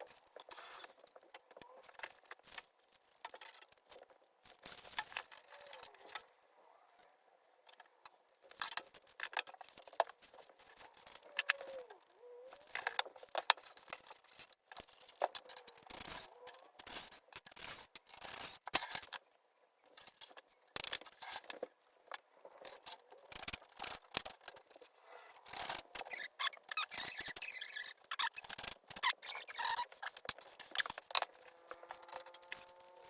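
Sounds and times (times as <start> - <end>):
hands handling plastic parts: 0.0 - 6.3, 7.0 - 33.0.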